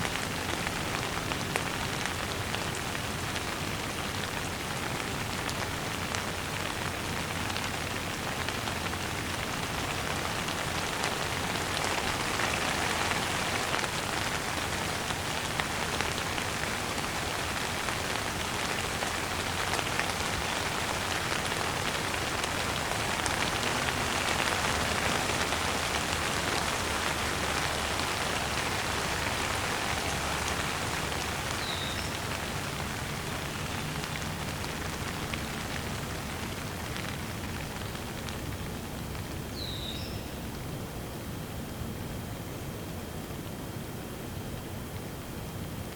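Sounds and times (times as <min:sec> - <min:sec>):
gentle rain patter: 0:00.0 - 0:45.9.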